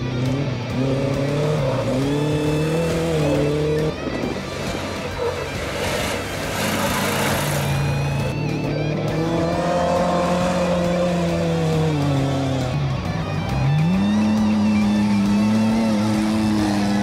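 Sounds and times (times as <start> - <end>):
background music: 0.0 - 17.0
truck engines at high revs: 0.0 - 17.0.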